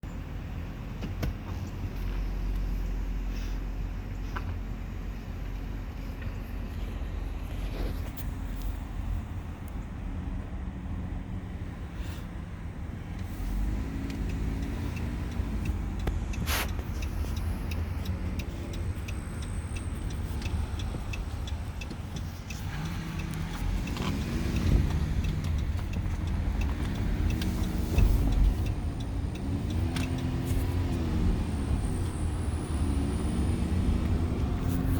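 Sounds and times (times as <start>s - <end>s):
vehicle engine rumbling: 0.0s - 34.9s.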